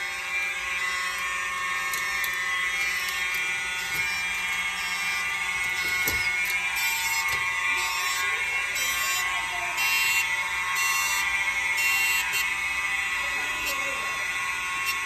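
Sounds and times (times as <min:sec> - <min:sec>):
fire alarm horn sounding: 0:00.0 - 0:15.0.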